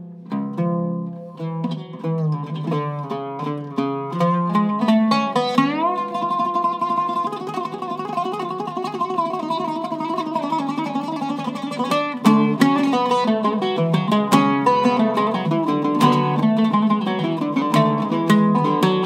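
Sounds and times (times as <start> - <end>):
oud plucked solo: 0.0 - 19.0.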